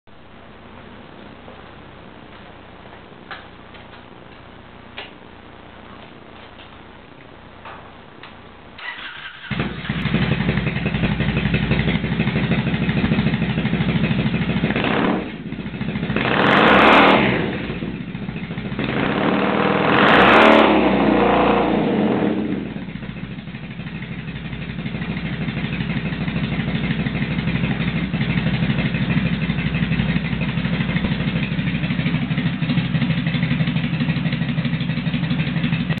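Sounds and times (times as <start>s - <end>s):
motorcycle engine idling and revving: 6.0s - 36.0s.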